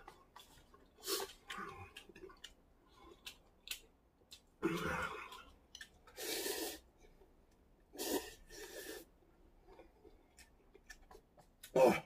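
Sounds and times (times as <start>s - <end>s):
mouth and breath sounds: 0.0s - 12.0s.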